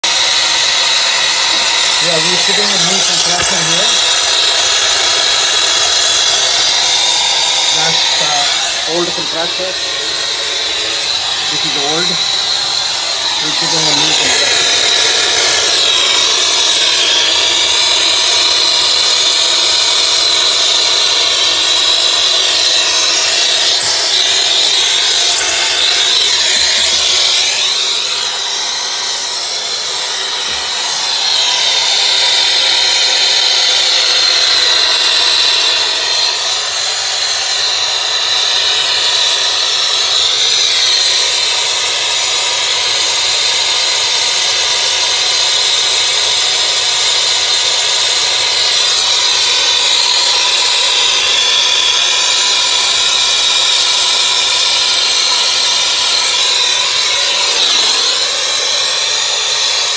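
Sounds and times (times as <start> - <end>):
torch flame hissing: 0.0 - 59.9.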